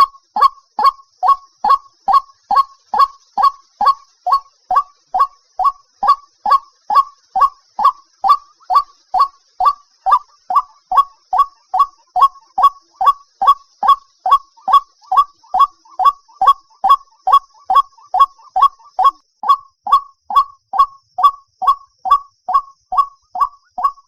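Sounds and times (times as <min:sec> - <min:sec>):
waterhen calling kwok: 0:00.0 - 0:24.0.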